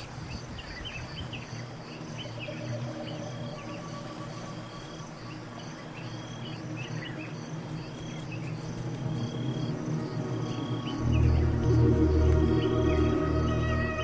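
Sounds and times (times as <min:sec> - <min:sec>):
bird-like chirps: 0:00.0 - 0:14.0
insects chirping: 0:00.0 - 0:14.0
low hum: 0:02.0 - 0:14.0.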